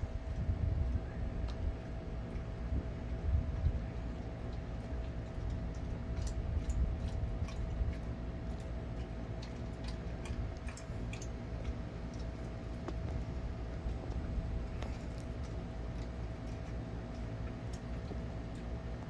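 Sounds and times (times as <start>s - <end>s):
low background hum: 0.0s - 19.0s
dog licking and smacking lips: 0.3s - 19.0s.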